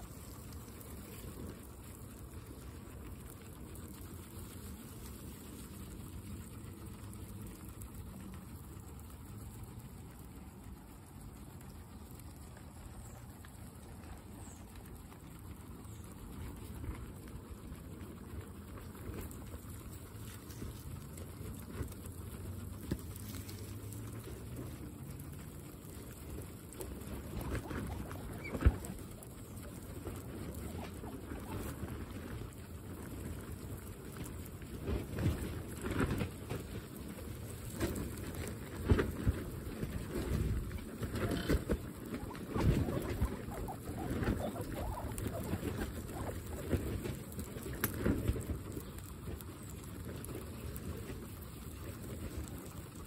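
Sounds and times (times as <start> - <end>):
grass rustling: 0.0 - 53.0
guinea pigs chewing grass: 0.0 - 53.0.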